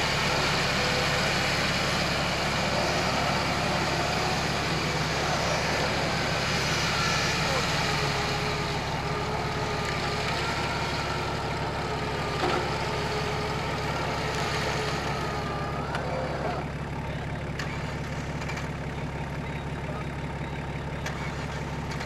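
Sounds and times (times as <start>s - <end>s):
wavering whine: 0.0s - 17.8s
off-road vehicle engines running: 0.0s - 22.0s.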